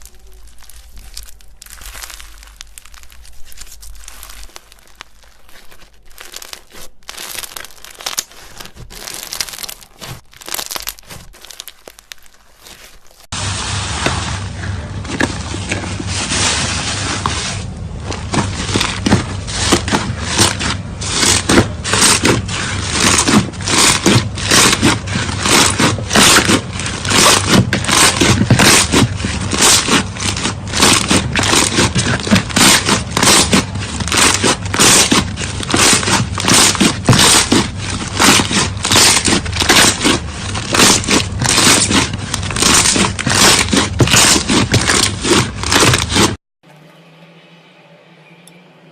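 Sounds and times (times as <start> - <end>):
slime squishing by hand: 0.0 - 46.4.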